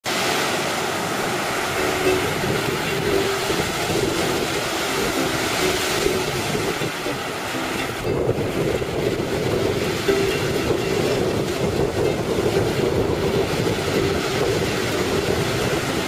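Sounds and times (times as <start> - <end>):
sea surf breaking: 0.0 - 16.0
wind on microphone: 0.1 - 16.0
faint ukulele notes: 1.6 - 16.0.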